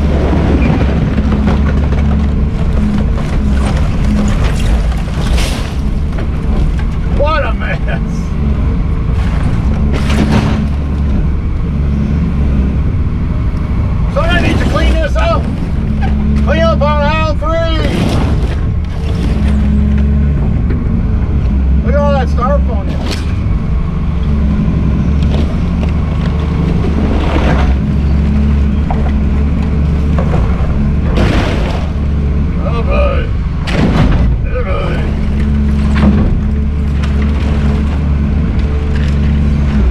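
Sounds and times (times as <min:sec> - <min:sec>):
excavator diesel engine running: 0:00.0 - 0:39.9
metal wreckage crunching: 0:00.0 - 0:39.9.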